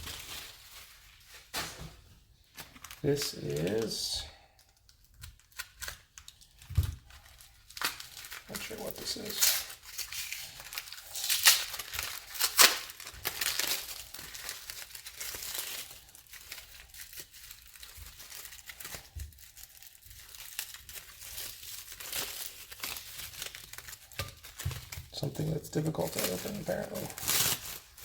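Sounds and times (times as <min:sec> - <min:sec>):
plastic packaging crinkling and tearing: 0:00.0 - 0:28.0.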